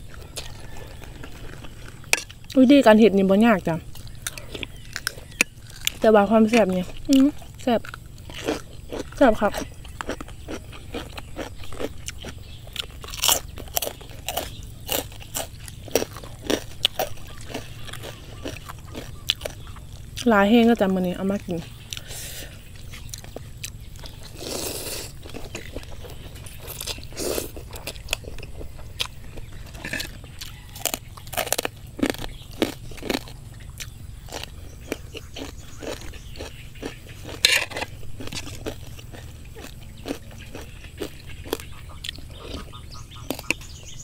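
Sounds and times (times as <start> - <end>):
chewing and crunching food: 0.0 - 44.0.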